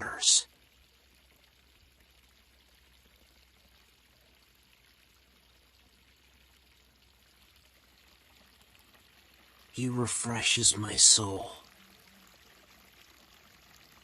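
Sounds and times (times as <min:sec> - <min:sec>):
faint babbling water: 0:00.0 - 0:14.0.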